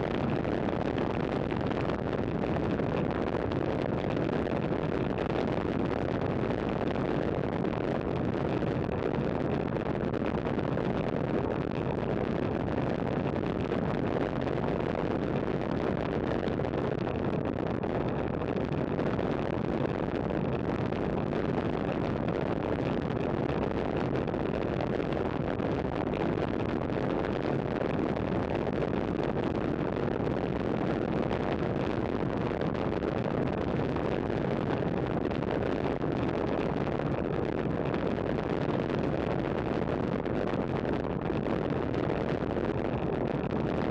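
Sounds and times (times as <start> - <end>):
wind on microphone: 0.0 - 43.9.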